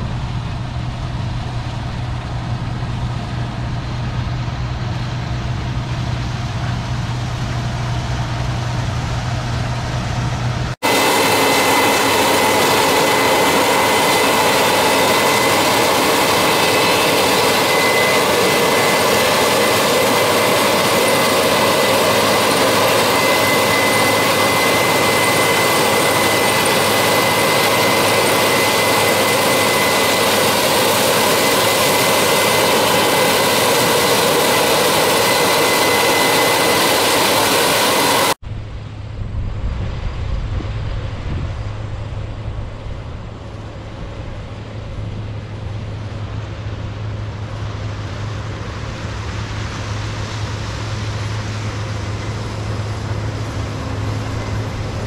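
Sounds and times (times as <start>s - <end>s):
combine harvester roaring: 0.0s - 55.0s
high mechanical whine: 0.0s - 55.0s.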